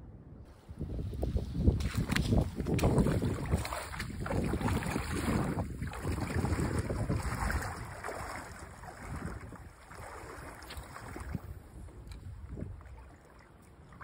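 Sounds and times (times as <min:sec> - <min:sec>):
wind gusting on microphone: 0:00.0 - 0:13.2
river water splashing: 0:01.7 - 0:14.0.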